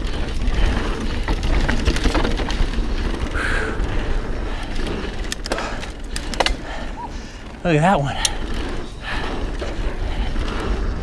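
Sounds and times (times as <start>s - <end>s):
bike rattling: 0.0s - 11.0s
bike tyres rumbling over dirt: 0.0s - 11.0s.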